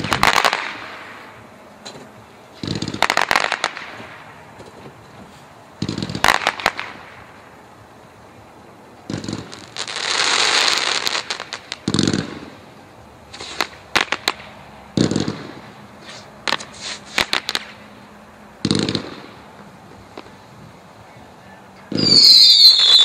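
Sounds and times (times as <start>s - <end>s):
fireworks booming: 0.0s - 21.2s, 21.9s - 23.0s
fireworks hissing crackling shower: 0.0s - 23.0s.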